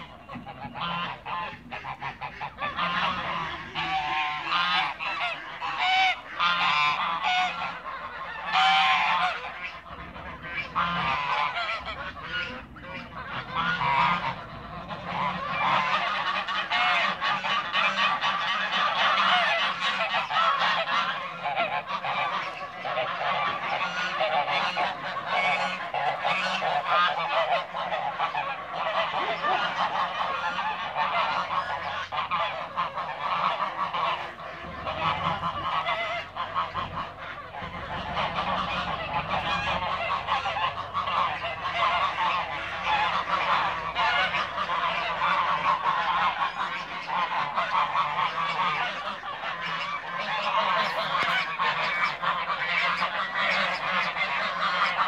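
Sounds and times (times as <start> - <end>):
geese honking: 0.0 - 55.0.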